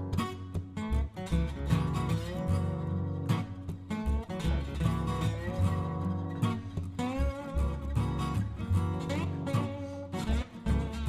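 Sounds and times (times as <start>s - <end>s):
acoustic guitar music: 0.0s - 11.0s
bass line: 0.0s - 11.0s.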